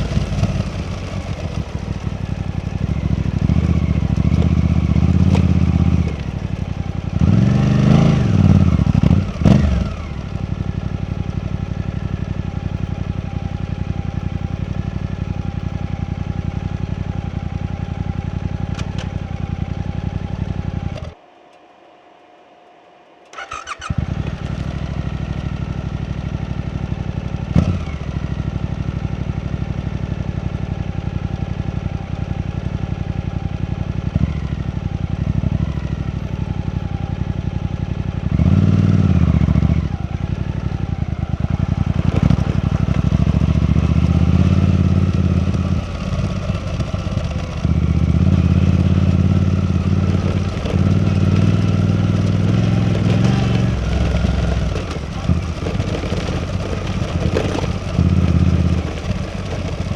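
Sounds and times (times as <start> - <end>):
motorcycle engine revving and idling: 0.0 - 21.3, 23.3 - 59.9.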